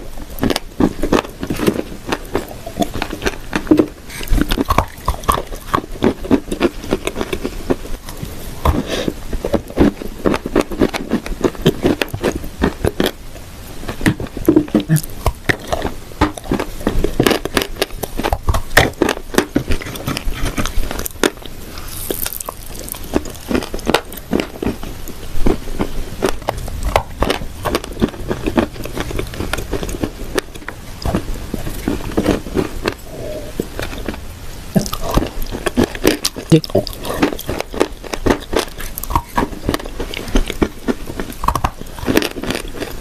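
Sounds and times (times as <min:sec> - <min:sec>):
crunching and chewing clay: 0:00.0 - 0:43.0.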